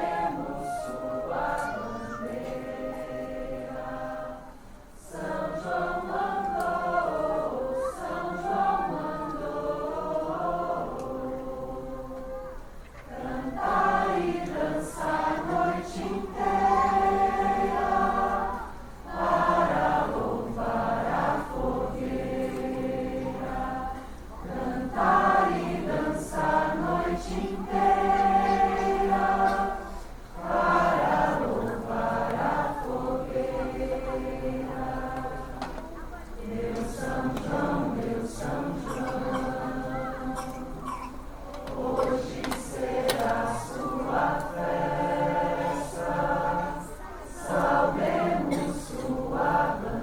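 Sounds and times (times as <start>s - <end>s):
group of people singing: 0.0s - 50.0s.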